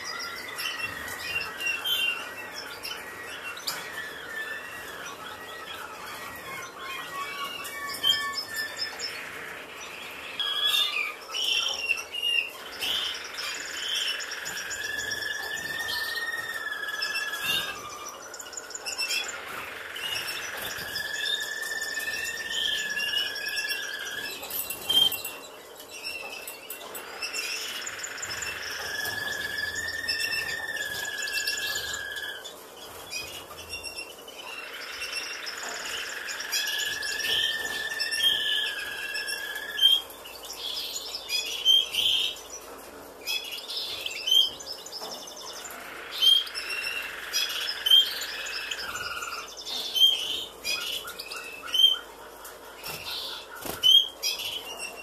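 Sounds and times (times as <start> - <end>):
birds chirping and twittering: 0.0 - 55.0.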